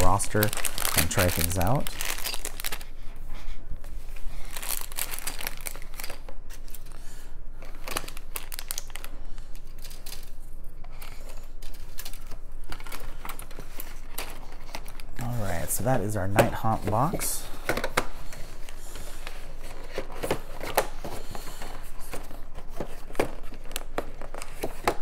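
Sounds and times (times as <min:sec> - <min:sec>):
packaging crinkling and rustling: 0:00.0 - 0:03.2, 0:03.8 - 0:25.0.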